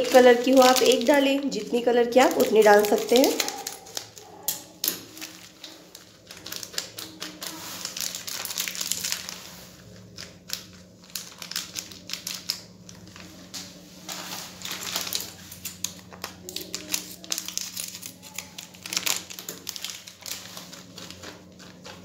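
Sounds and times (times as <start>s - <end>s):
plastic packet crinkling: 0.0s - 22.0s
small clicks and crackles: 0.0s - 22.0s.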